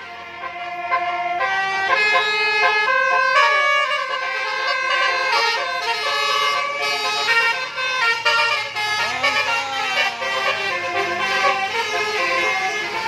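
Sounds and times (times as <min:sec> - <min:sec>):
air horn playing a tune: 0:00.0 - 0:13.0.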